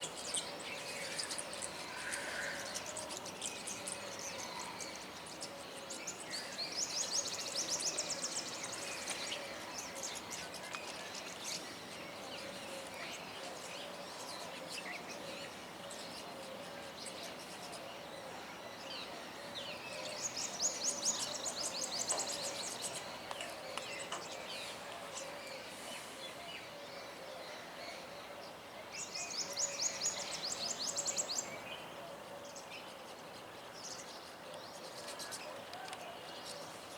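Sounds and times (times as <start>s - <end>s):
songbirds singing and chirping: 0.0s - 36.9s.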